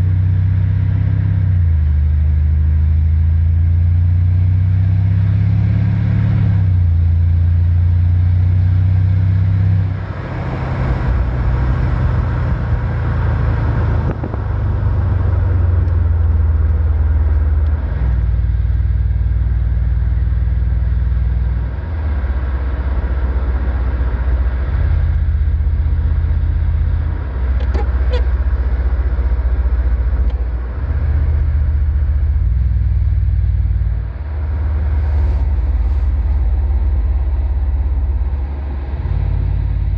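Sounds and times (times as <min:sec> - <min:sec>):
car engine exhaust drone: 0:00.0 - 0:39.9.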